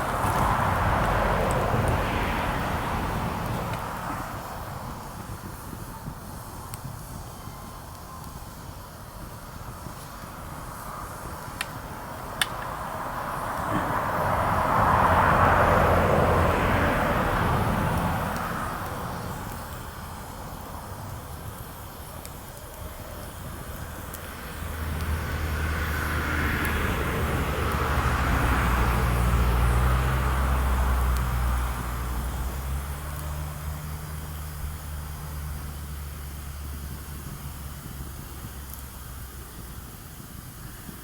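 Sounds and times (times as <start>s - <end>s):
passing traffic engines: 0.0s - 7.3s, 8.5s - 41.0s
steady low engine hum: 0.0s - 41.0s.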